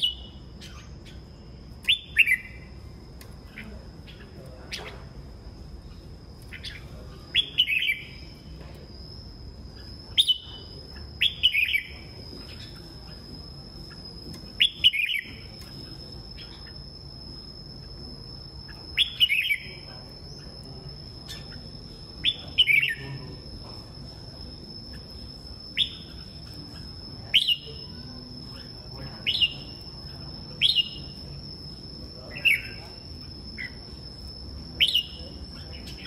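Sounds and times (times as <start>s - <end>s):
birds singing warbling phrases: 0.0s - 36.0s.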